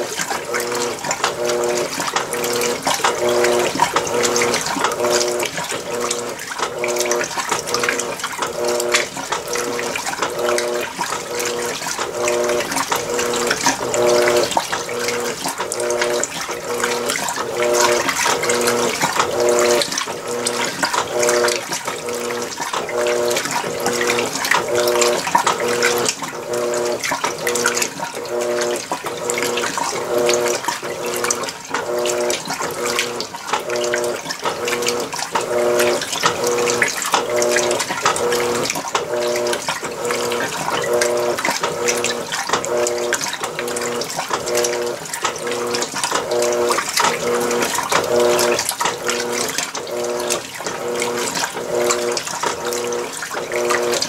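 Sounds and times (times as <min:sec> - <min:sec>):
washing machine motor humming: 0:00.0 - 0:54.0
water sloshing in washing machine: 0:00.0 - 0:54.0.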